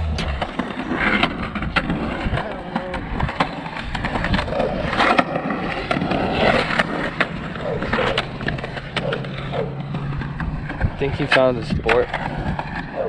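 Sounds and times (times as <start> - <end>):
skateboard wheels rolling on concrete: 0.0 - 13.0
skateboards clacking on concrete: 0.0 - 13.0.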